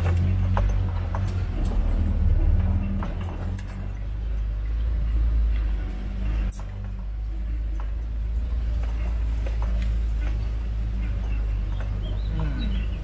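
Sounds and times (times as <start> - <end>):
knocks and rattles: 0.0 - 13.0
vehicle driving rumble: 0.0 - 13.0.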